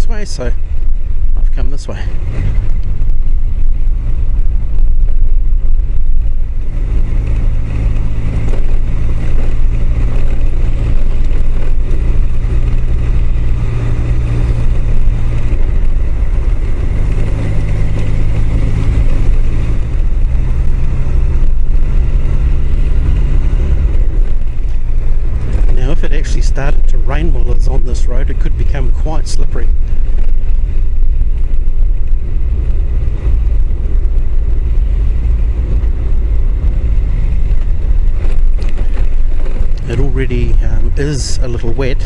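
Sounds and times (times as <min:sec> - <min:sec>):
motorcycle engine running: 0:00.0 - 0:42.0
wind rumble: 0:00.0 - 0:42.0.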